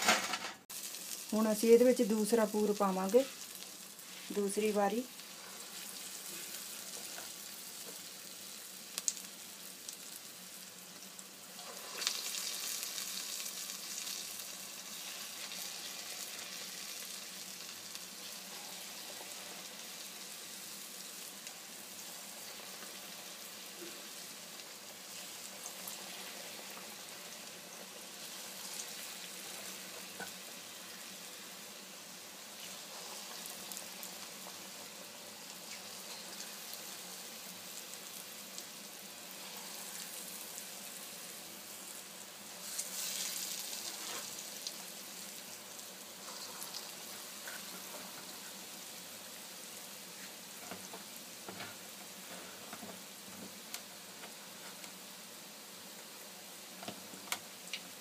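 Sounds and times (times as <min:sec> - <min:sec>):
food deep-frying in oil: 0:00.0 - 0:58.0.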